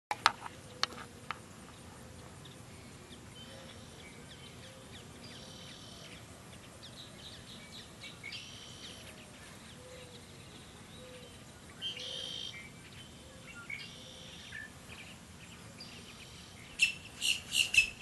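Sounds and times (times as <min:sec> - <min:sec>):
birds chirping: 0:00.2 - 0:18.0
buzzy bird calls: 0:03.4 - 0:18.0.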